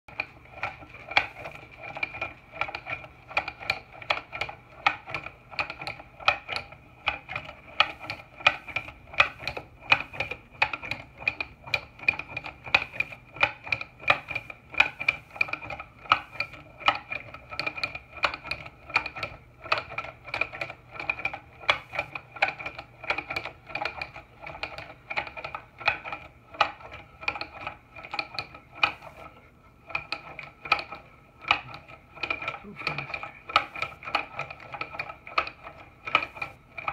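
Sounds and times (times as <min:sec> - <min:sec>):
wooden mechanism clacking: 0:00.1 - 0:36.9.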